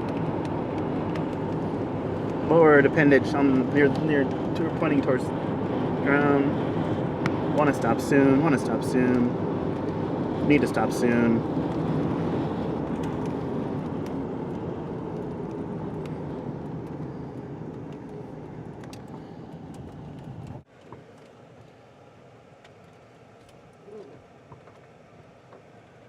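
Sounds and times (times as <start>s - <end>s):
road and engine noise: 0.0s - 26.0s.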